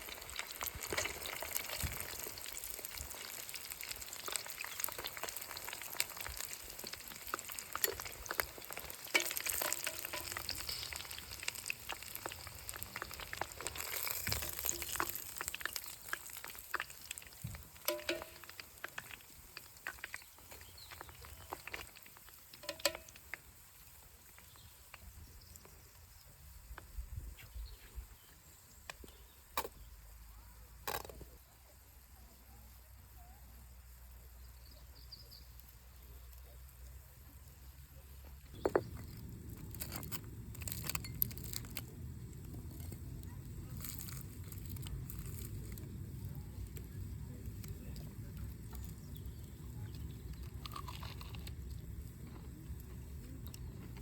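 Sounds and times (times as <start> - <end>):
chicken deep-frying in oil: 0.0 - 54.0.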